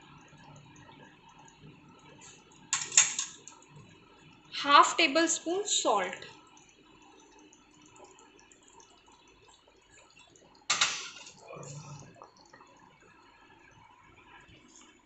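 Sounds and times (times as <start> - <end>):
curry bubbling in a pan: 0.0 - 15.0.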